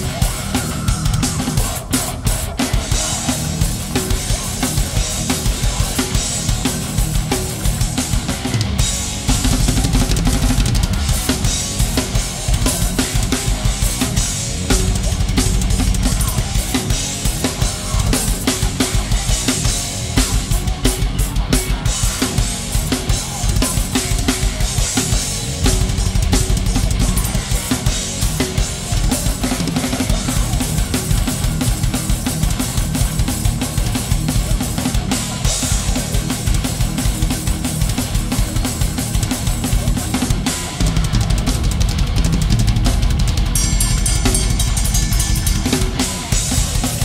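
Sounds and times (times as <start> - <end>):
metal band music: 0.0 - 47.0
rapid bass drum: 0.0 - 47.0.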